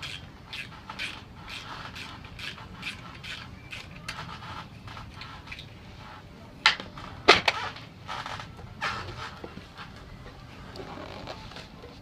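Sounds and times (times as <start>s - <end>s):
tools creaking and scraping on metal: 0.0s - 12.0s.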